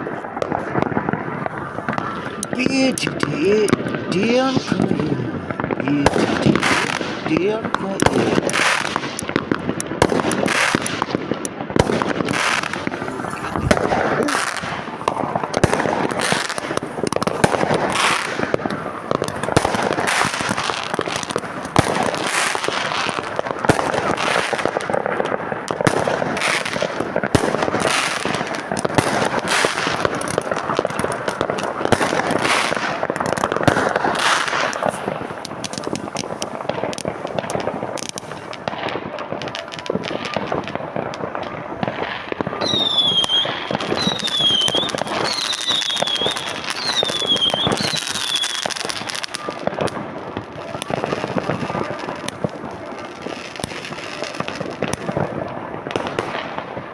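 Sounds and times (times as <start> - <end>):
fireworks and firecrackers banging: 0.0 - 56.9.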